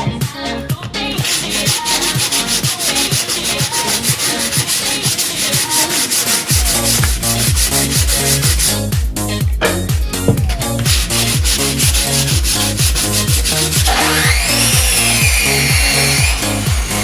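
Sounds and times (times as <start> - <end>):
dance music with kick drum: 0.1 - 17.0
wood being sanded: 1.0 - 8.8, 10.4 - 17.0.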